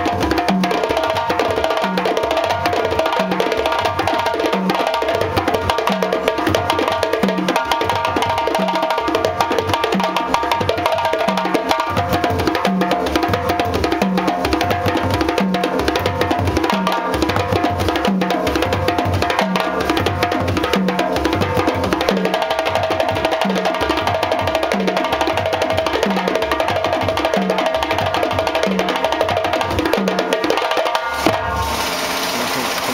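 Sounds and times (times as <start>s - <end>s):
djembes drumming: 0.0s - 32.9s
drum played with sticks: 0.0s - 32.9s.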